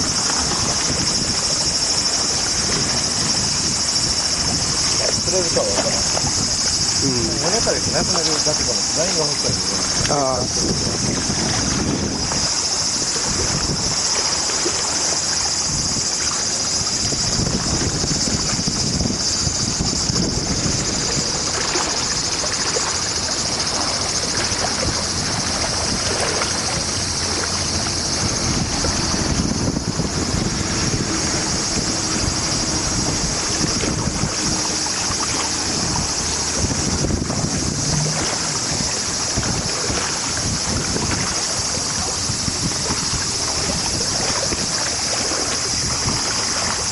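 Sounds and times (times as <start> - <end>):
high-pitched hiss: 0.0 - 46.9
wind buffeting microphone: 0.0 - 46.9.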